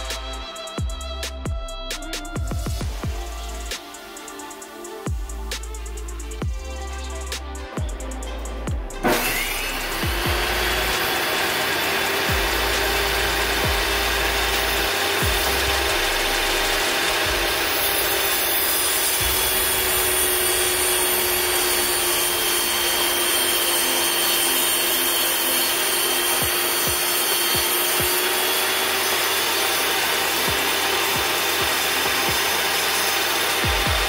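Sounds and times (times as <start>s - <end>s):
table saw whining: 0.0s - 34.0s.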